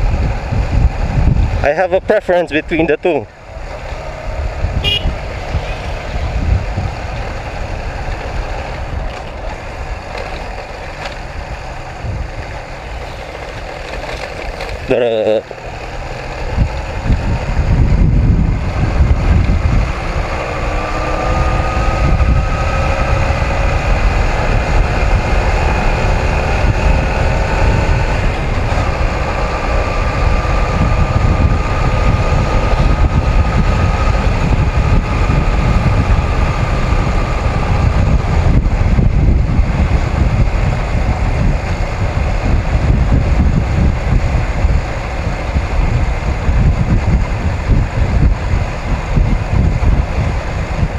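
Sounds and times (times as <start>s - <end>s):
motorcycle engine revving: 0.0s - 50.9s
wind buffeting microphone: 0.0s - 50.9s.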